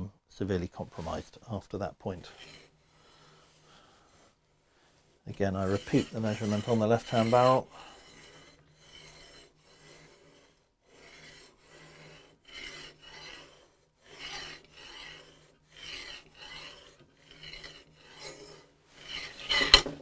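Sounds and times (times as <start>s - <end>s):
metal barrel rubbing on rod: 2.2s - 4.3s, 5.0s - 20.0s.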